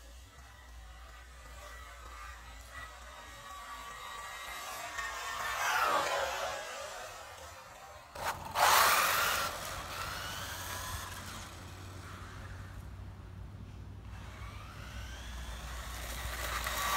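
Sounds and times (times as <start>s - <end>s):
toy car electric motor whining: 0.0s - 12.8s, 14.1s - 16.9s.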